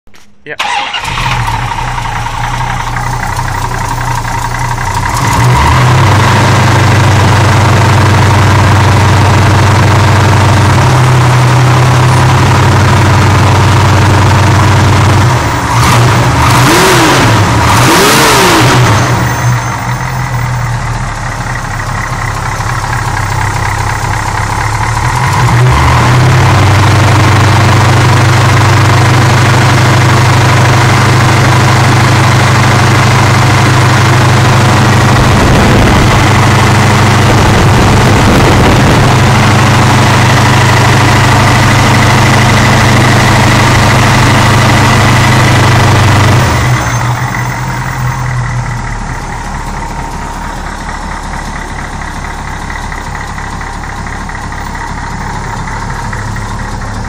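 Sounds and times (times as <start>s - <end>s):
engine running with throttle blips: 0.1s - 57.0s.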